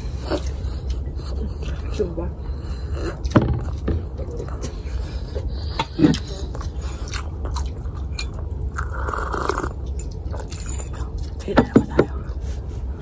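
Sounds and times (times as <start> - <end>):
person chewing food: 0.0 - 1.9, 2.5 - 11.4
steady low hum: 0.0 - 13.0.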